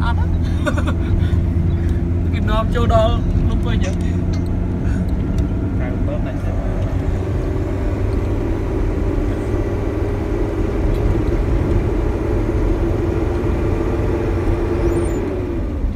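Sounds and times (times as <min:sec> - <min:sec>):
bus engine rumble: 0:00.0 - 0:15.9.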